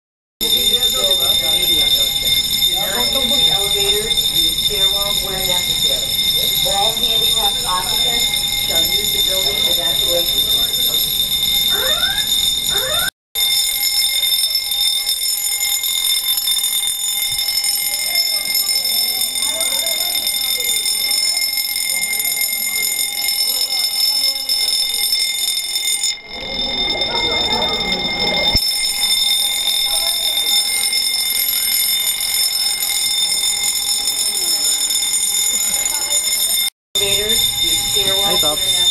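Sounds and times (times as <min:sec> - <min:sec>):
fire alarm high-pitched tone: 0:00.4 - 0:38.9.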